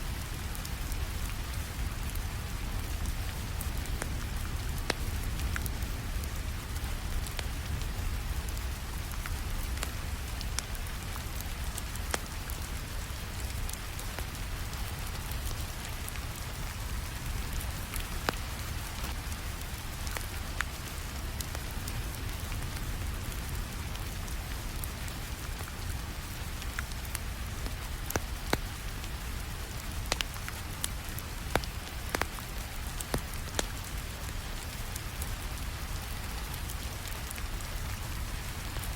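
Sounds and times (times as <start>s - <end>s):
steady rainfall: 0.0s - 38.9s
wood fire crackling: 0.0s - 38.9s.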